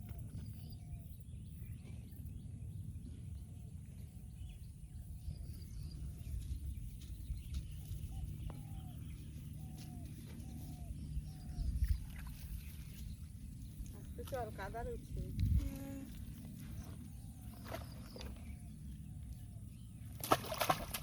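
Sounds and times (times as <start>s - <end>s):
steady low rumble: 0.0s - 20.2s.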